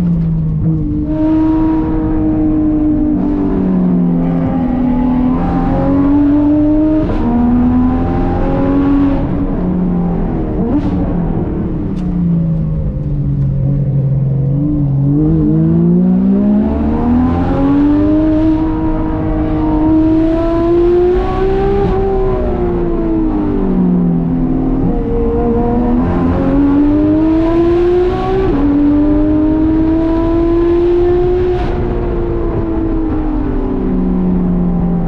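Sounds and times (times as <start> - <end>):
sports car engine revving: 0.0 - 35.0.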